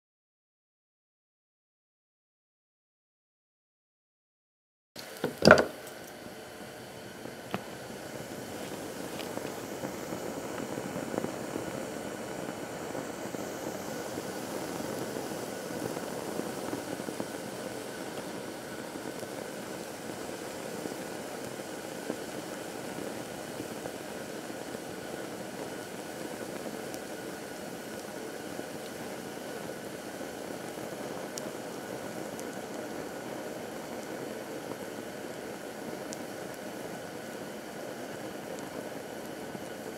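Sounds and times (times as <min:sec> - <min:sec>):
flame rushing: 0:05.0 - 0:39.9.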